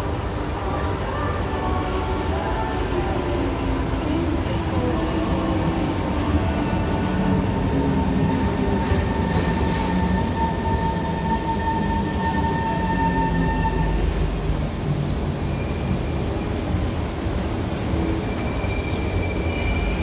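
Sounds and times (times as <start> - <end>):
metro train rumbling on rails: 0.0 - 20.0.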